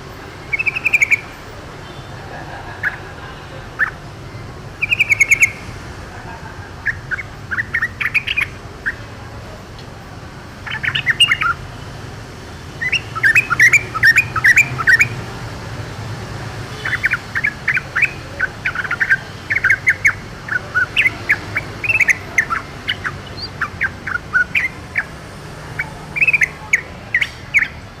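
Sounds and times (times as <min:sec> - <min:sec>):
bird chattering song: 0:00.0 - 0:11.8, 0:12.7 - 0:28.0.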